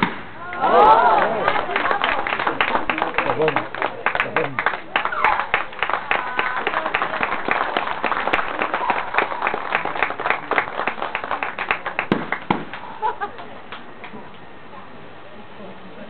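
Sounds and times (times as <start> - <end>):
audience clapping: 0.5 - 14.2.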